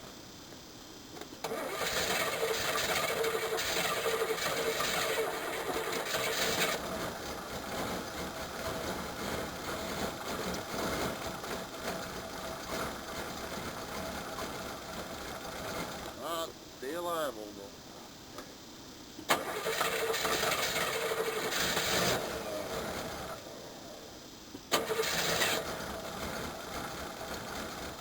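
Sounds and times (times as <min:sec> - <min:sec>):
car engine starting and idling: 0:01.2 - 0:16.4, 0:19.2 - 0:28.0.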